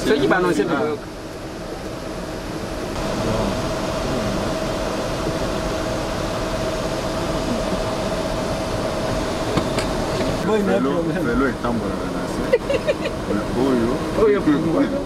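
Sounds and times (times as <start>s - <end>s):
ventilation air rushing with whine: 0.0s - 15.0s.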